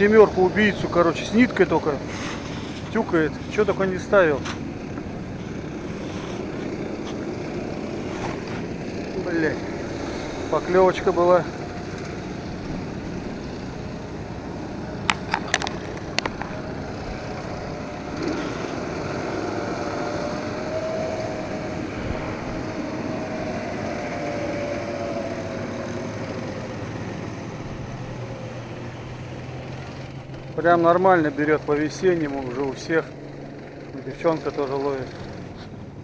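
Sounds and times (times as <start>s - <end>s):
distant snowmobile engine: 0.0s - 36.0s
noisy background: 0.0s - 36.0s.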